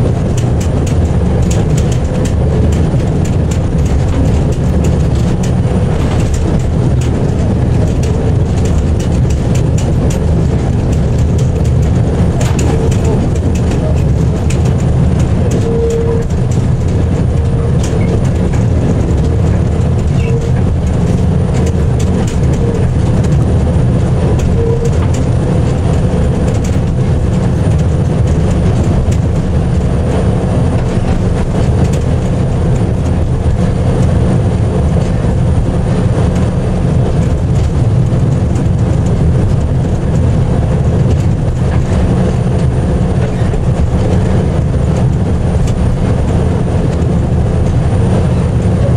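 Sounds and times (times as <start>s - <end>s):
low diesel engine rumble: 0.0s - 48.9s
wheels clicking and rattling on rails: 0.0s - 48.9s.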